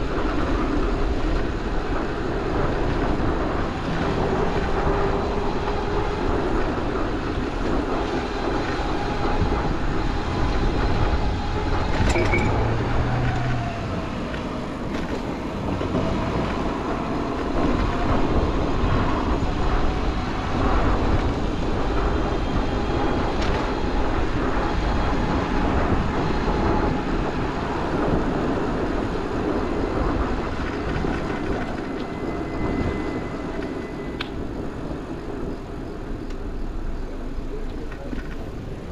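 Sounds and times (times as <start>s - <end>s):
streetcar running on rails: 0.0s - 38.9s
traffic rumble: 0.0s - 38.9s
wind on microphone: 0.0s - 38.9s.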